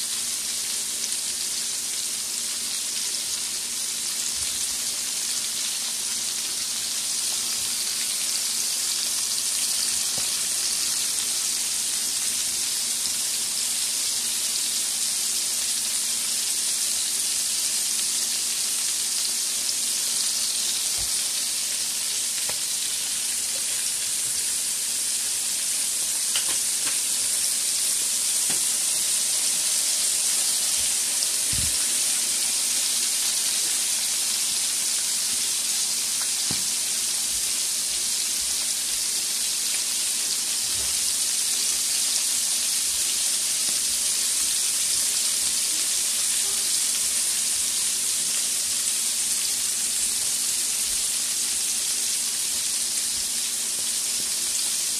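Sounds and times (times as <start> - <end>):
fish deep-frying in oil: 0.0 - 54.9.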